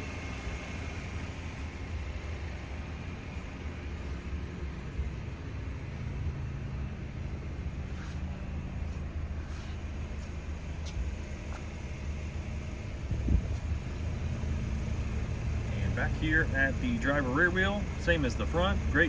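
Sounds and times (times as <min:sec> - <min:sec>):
low rumble with faint hum: 0:00.0 - 0:19.0.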